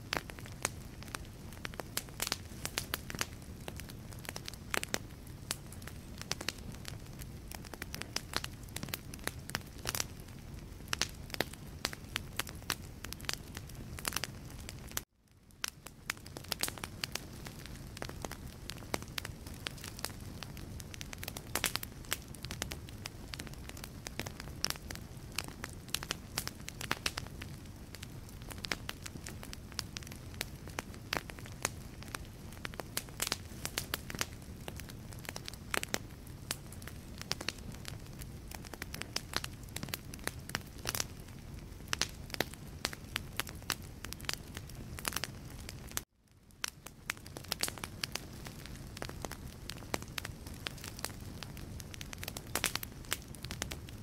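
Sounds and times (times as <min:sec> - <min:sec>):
low rumble of flame: 0:00.0 - 0:54.0
wood fire crackling: 0:00.0 - 0:54.0.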